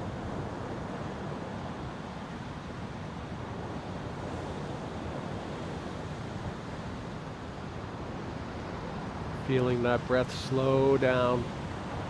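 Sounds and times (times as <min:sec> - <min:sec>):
wind rumble on microphone: 0:00.0 - 0:10.3, 0:11.4 - 0:12.0
ocean surf: 0:00.0 - 0:12.0.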